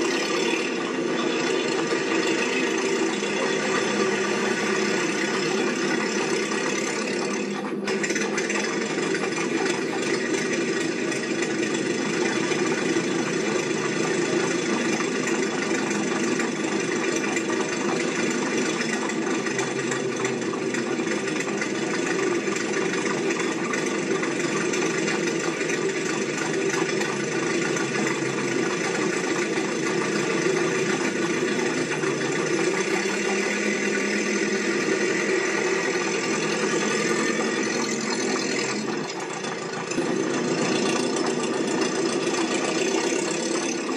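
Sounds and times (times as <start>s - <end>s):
machine running: 0.0s - 43.9s.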